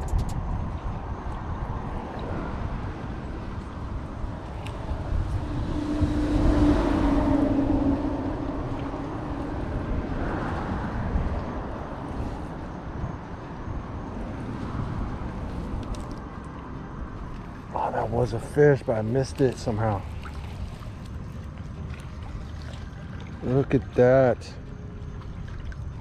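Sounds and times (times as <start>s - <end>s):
low wind rumble: 0.0s - 26.0s
road vehicle passing by: 1.7s - 26.0s.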